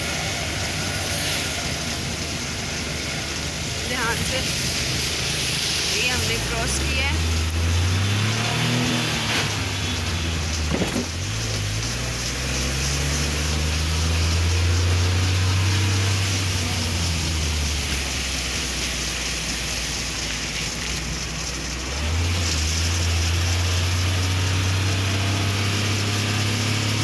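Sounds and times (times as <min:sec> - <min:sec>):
car engine hum: 0:00.0 - 0:27.0
hiss of rain and spray: 0:00.0 - 0:27.0
tyres on a wet road: 0:00.0 - 0:27.0.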